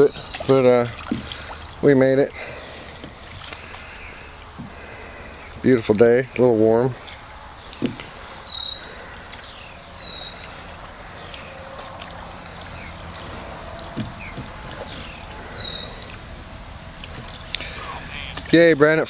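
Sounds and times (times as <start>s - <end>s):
paddle splashing in water: 0.0s - 16.4s, 17.0s - 18.7s.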